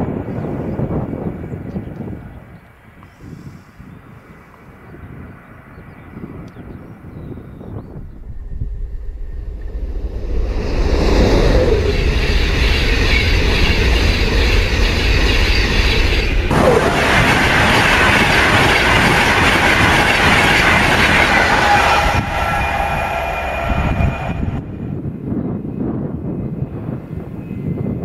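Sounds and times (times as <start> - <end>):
electric trains passing at speed: 0.0 - 28.0.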